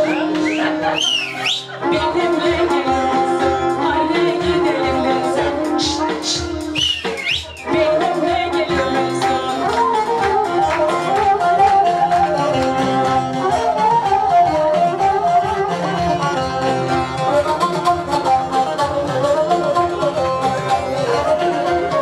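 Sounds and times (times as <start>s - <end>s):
bowed fiddle melody: 0.0s - 6.9s, 7.6s - 22.0s
hand percussion beat: 0.0s - 22.0s
strummed lute: 0.0s - 22.0s.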